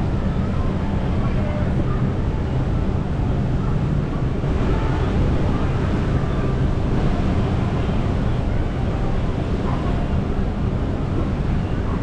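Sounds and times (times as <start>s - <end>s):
faint distant voices: 0.0s - 12.0s
wind noise on microphone: 0.0s - 12.0s.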